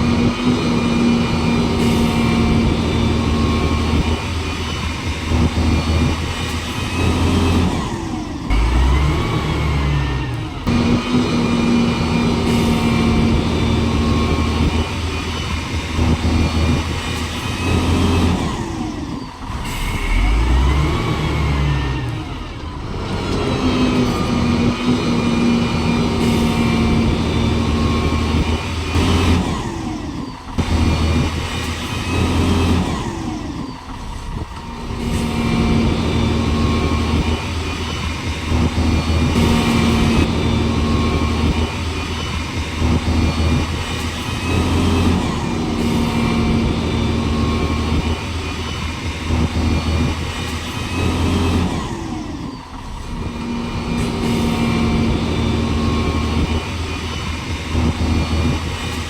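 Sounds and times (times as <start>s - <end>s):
vehicle engine revving: 0.0s - 59.0s.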